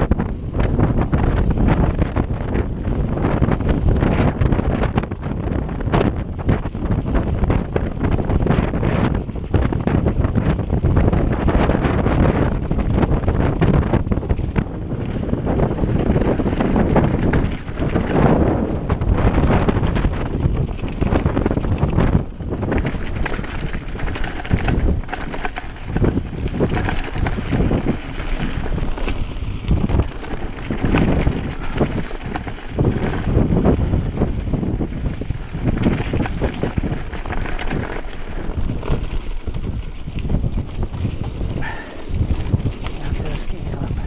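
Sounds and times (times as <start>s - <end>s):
bike tyres rumbling over stony track: 0.0s - 44.0s
wind buffeting microphone: 0.0s - 44.0s.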